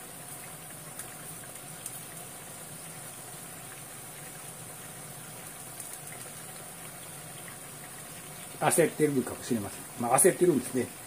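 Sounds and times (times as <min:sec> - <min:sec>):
food bubbling in oil in a pan: 0:00.0 - 0:11.0.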